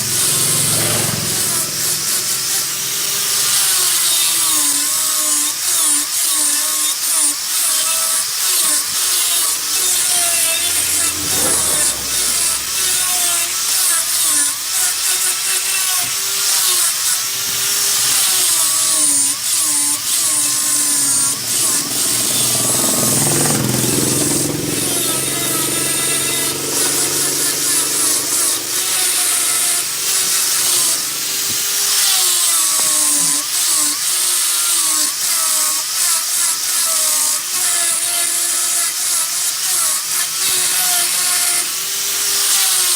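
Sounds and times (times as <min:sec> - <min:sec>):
wood lathe tool cutting wood: 0:00.0 - 0:42.9.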